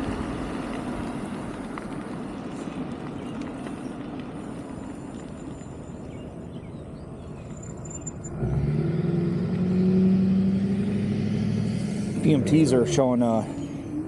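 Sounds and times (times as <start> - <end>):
road rumble: 0.0 - 14.0
vehicle motor hum: 0.0 - 14.0
wind: 0.0 - 14.0.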